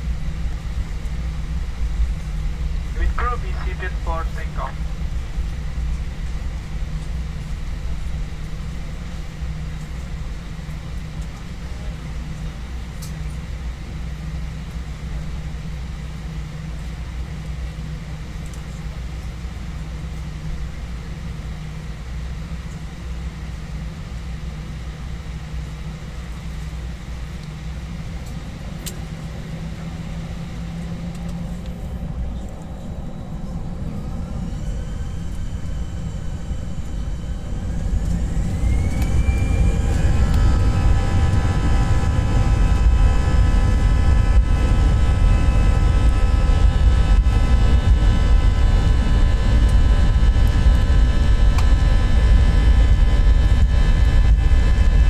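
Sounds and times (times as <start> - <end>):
jet engines idling low rumble: 0.0 - 55.0
jet engines spooling up whine: 0.0 - 55.0.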